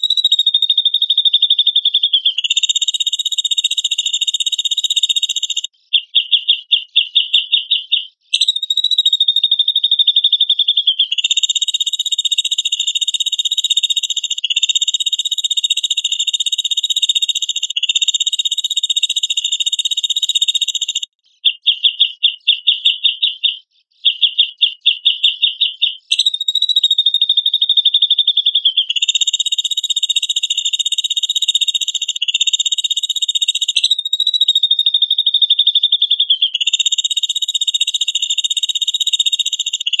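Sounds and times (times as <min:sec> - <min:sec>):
bird song with buzzy trills: 0:00.0 - 0:40.0.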